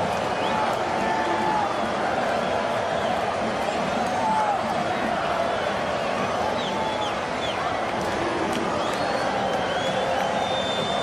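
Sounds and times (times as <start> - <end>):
crowd shouting and chattering: 0.0 - 11.0.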